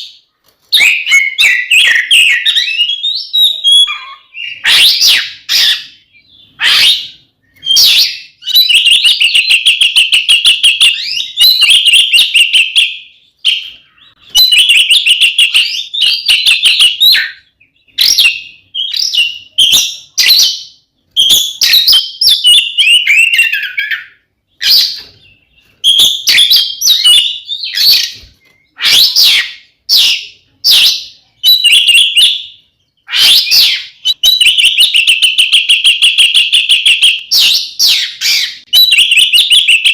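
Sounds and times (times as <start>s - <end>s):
magpie-robin singing chattering trills: 0.8s - 39.9s.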